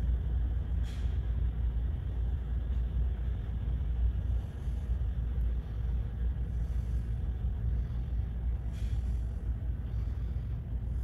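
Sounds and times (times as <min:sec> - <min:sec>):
ferry engine low rumble: 0:00.0 - 0:11.0.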